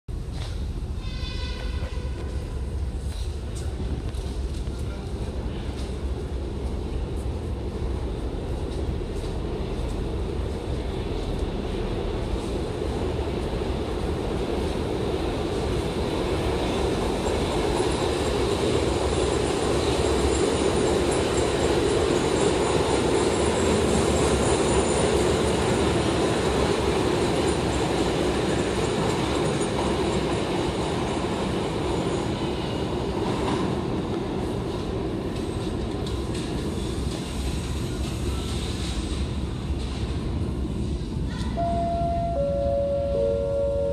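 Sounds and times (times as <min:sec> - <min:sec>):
train rumble and rail noise: 0:00.1 - 0:43.9.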